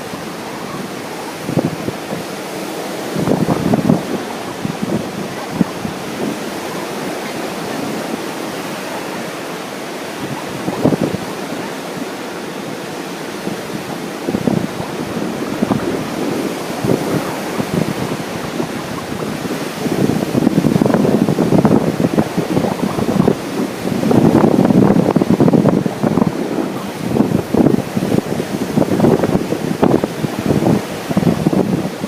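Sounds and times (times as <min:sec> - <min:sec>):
ocean surf washing: 0:00.0 - 0:32.0
wind buffeting microphone: 0:00.0 - 0:32.0.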